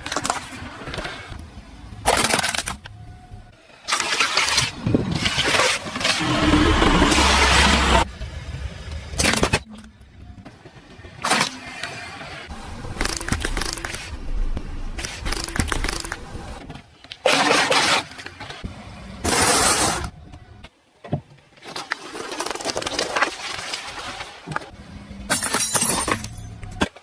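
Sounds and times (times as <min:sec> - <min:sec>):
car engine and tyre noise: 0:00.0 - 0:21.6, 0:22.9 - 0:27.0.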